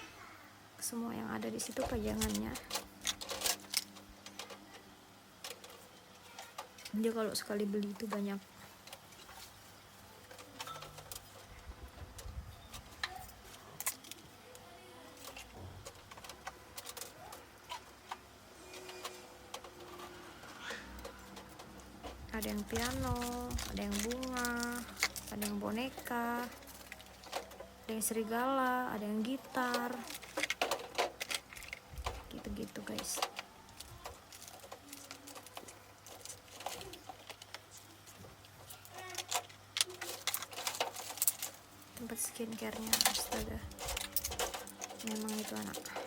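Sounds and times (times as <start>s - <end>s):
low steady hum: 0.0s - 46.0s
small toys clicking and tapping: 1.4s - 9.5s, 10.2s - 28.4s, 29.0s - 46.0s.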